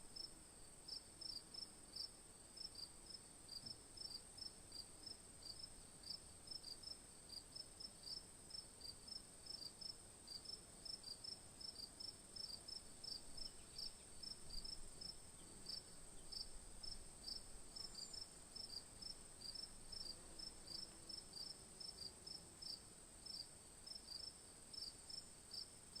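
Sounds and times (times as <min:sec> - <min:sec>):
crickets chirping: 0:00.9 - 0:26.0.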